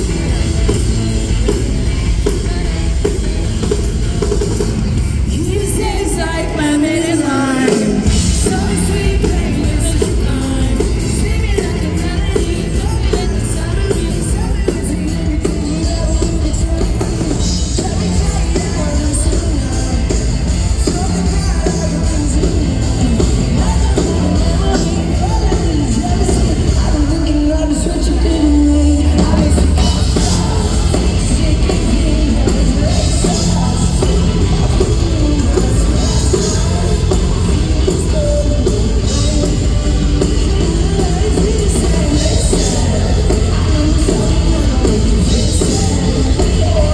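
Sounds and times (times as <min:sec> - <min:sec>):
lead singer: 0:00.0 - 0:46.9
live pop-rock band: 0:00.0 - 0:46.9.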